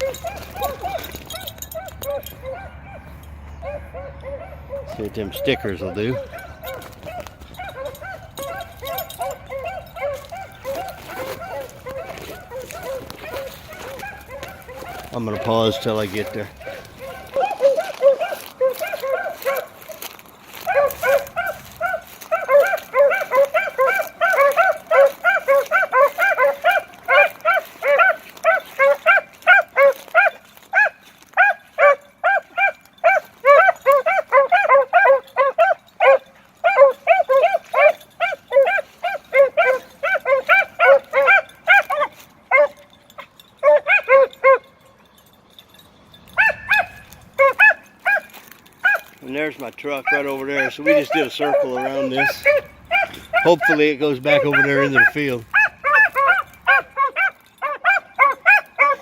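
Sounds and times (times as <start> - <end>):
beagles baying: 0.0 - 59.0.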